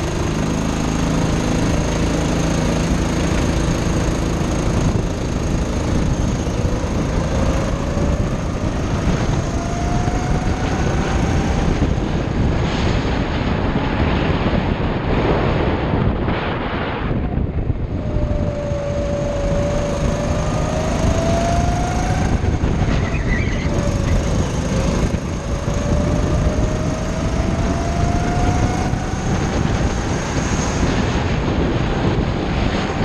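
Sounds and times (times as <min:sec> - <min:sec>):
go-kart engine accelerating: 0:00.0 - 0:14.8, 0:17.4 - 0:33.0
wind buffeting on microphone: 0:00.0 - 0:33.0.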